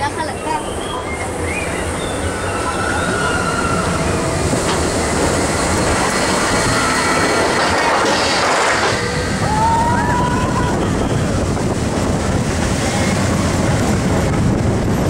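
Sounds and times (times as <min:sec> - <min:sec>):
roller coaster train rumbling: 0:00.0 - 0:15.0.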